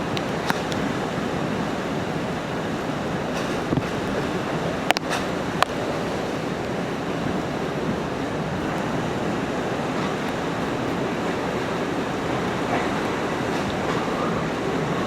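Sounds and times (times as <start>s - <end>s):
hurricane wind rushing: 0.0s - 15.0s.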